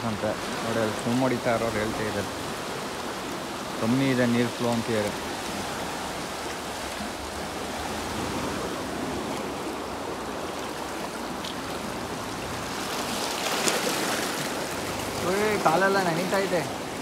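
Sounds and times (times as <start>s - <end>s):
water rushing into channel: 0.0s - 17.0s.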